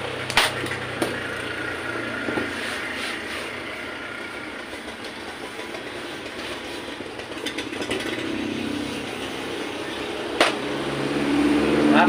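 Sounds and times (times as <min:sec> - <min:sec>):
passing motor traffic: 0:00.0 - 0:12.0.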